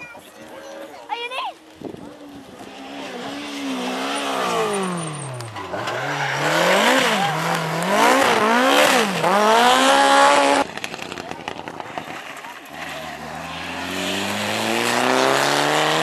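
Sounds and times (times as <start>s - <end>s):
rally car engine revving: 2.0s - 16.0s.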